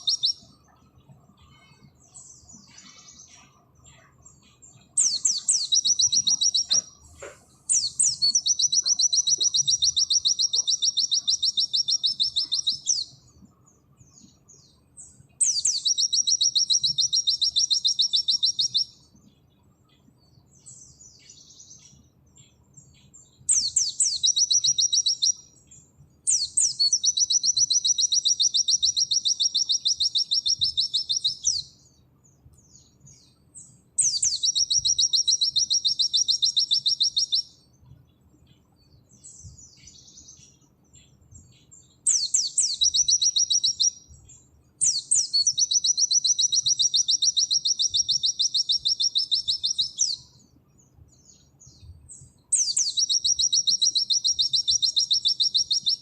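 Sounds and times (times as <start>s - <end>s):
bird singing high-pitched trills: 0.0s - 56.0s.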